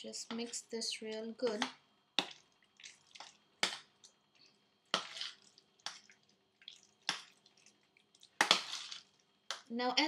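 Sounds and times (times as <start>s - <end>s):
hands kneading wet meat: 0.4s - 9.7s.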